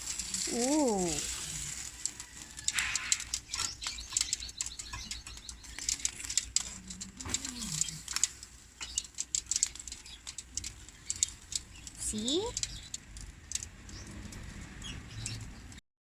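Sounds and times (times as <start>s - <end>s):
pork sizzling on a grill: 0.0s - 15.8s.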